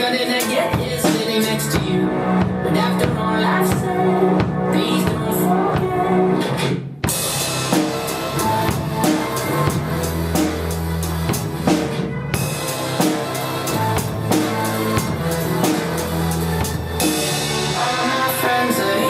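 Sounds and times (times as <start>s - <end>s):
drum kit groove: 0.0s - 19.0s
pop-rock backing track: 0.0s - 19.0s.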